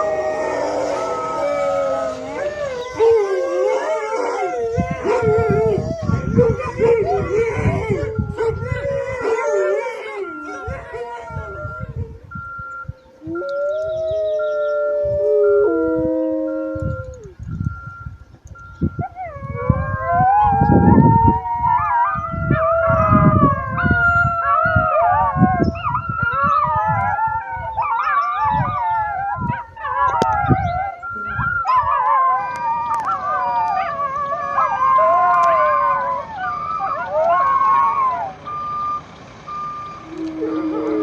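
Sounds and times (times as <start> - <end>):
pack of canines howling: 0.0 - 12.5, 13.1 - 17.4, 19.0 - 38.7, 39.5 - 41.0
vehicle reversing alarm beeps: 0.0 - 41.0.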